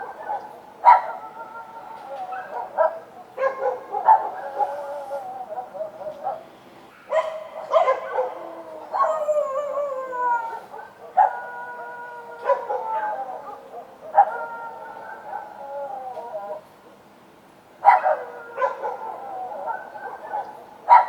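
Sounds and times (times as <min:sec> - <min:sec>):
dogs barking: 0:00.0 - 0:01.6, 0:02.2 - 0:09.4, 0:10.6 - 0:15.6, 0:17.8 - 0:21.0
dogs howling: 0:00.0 - 0:06.4, 0:07.1 - 0:16.7, 0:17.8 - 0:21.0.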